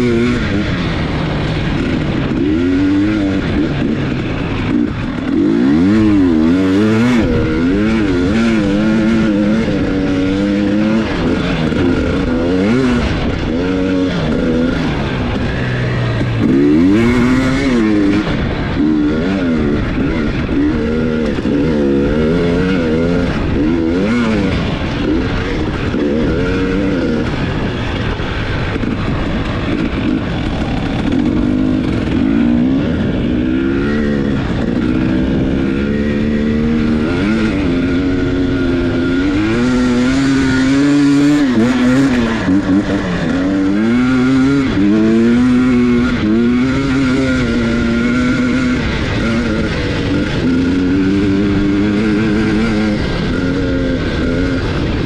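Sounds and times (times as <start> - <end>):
two-stroke motorcycle engine revving: 0.0 - 55.0
wind noise on microphone: 0.0 - 55.0.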